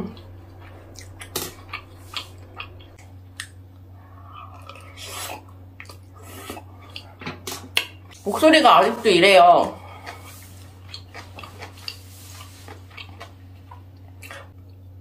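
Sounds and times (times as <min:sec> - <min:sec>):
person chewing food: 0:00.0 - 0:08.2, 0:09.8 - 0:15.0
steady low hum: 0:00.0 - 0:15.0.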